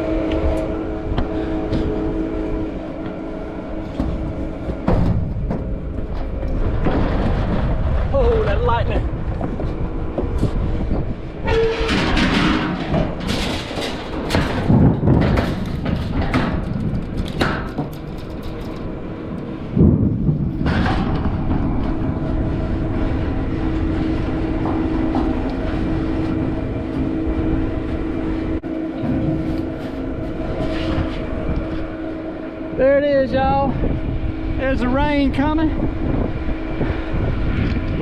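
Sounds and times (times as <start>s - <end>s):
steady mechanical hum: 0.0s - 38.0s
wind gusting across microphone: 0.0s - 38.0s.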